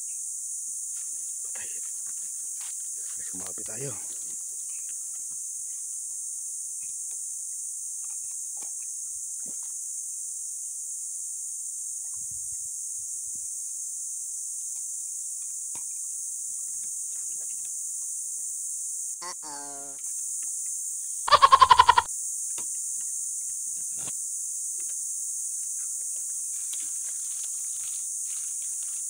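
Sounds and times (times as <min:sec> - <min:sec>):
insect chorus drone: 0:00.0 - 0:29.0.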